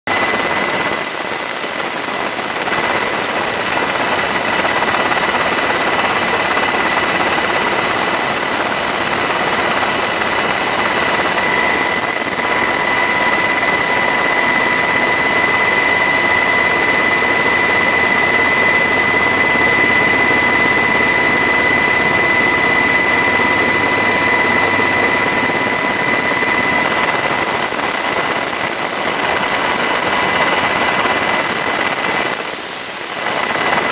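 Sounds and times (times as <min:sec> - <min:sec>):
helicopter cabin rush: 0:00.1 - 0:33.9
high-pitched whines: 0:00.1 - 0:33.9.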